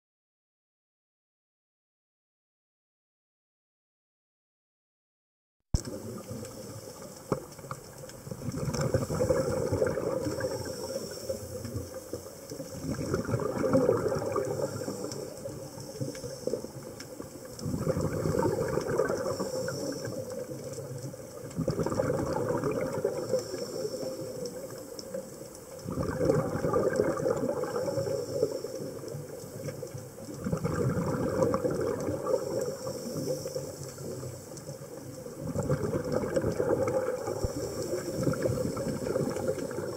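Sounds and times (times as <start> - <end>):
underwater breath bubbling: 5.8 - 39.9.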